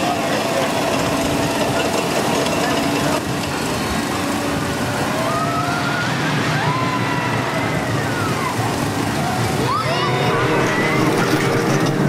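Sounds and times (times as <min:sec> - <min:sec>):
crowd noise: 0:00.0 - 0:12.0
ride machinery: 0:00.0 - 0:12.0.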